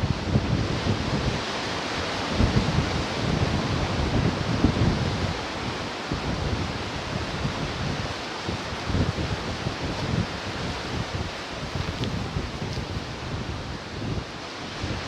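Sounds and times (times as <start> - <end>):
wind rumbling on microphone: 0.0 - 15.0
ocean surf washing ashore: 0.1 - 15.0.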